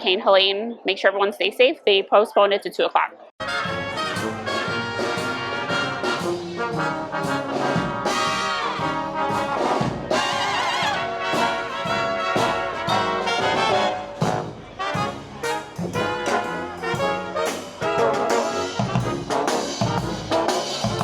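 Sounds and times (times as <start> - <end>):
brass band playing: 3.4 - 21.0.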